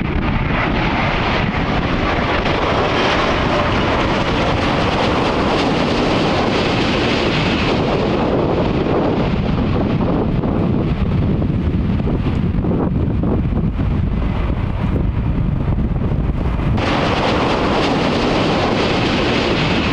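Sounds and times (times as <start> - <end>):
jet engine rush: 0.0 - 19.9
wind buffeting microphone: 0.0 - 19.9.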